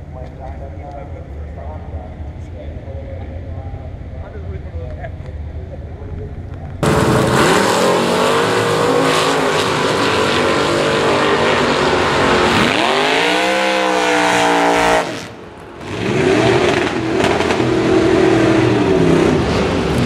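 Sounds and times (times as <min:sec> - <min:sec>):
drag car engines running hard: 0:00.0 - 0:20.0.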